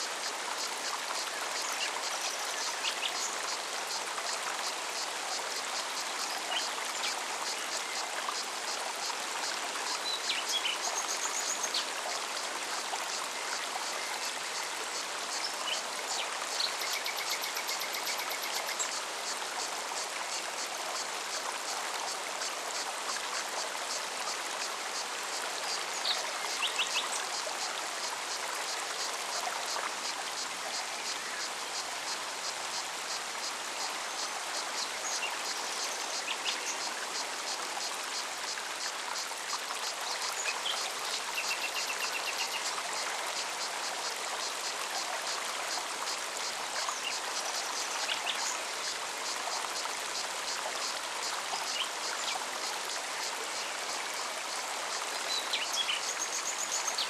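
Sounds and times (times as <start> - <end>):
insect chirping: 0.0 - 57.0
stream running over rocks: 0.0 - 57.0.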